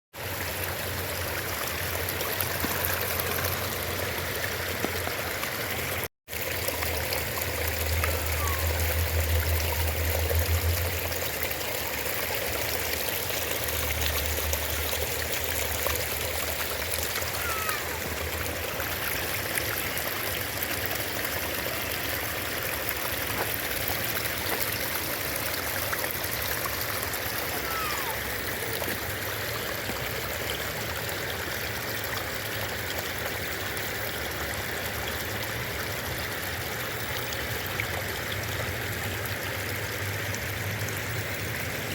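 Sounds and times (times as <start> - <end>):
creek water splashing over waterfalls: 0.2 - 41.9.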